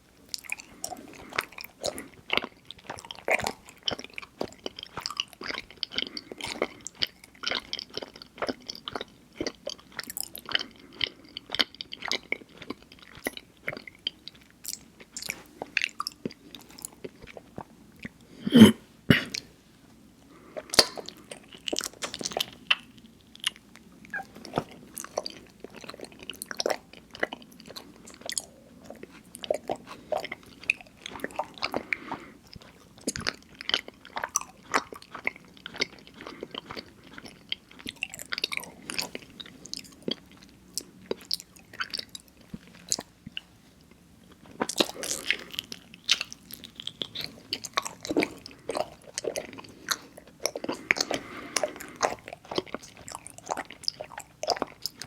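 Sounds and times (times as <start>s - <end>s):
wet sticky chewing sounds: 0.3s - 18.3s, 20.4s - 55.0s.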